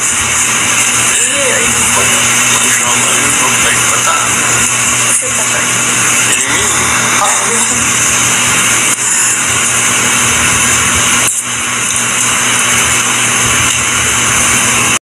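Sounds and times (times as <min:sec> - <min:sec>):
static hiss: 0:00.0 - 0:15.0.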